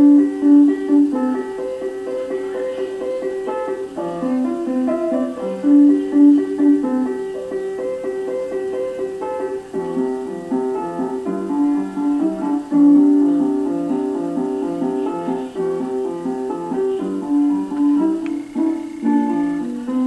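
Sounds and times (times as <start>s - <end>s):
solo piano piece: 0.0s - 20.0s.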